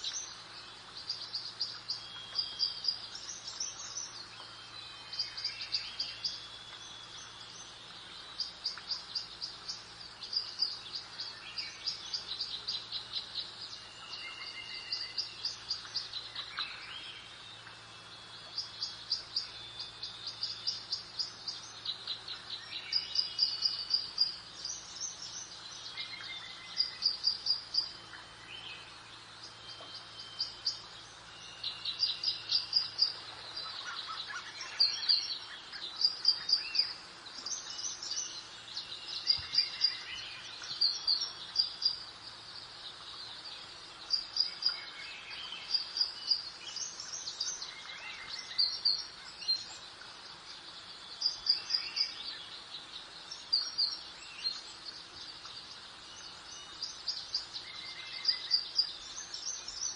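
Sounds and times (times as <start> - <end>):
birds chirping: 0.0 - 59.9
faint background hiss: 0.0 - 59.9.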